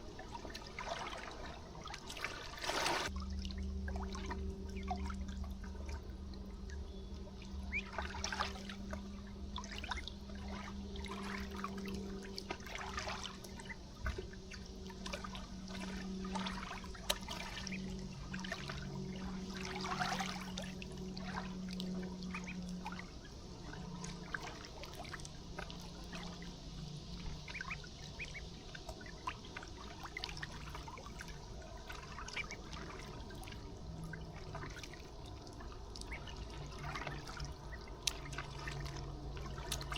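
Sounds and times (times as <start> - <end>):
river water trickling and lapping: 0.0 - 39.9
small water splashes: 0.0 - 39.9
steady low hum: 0.0 - 39.9.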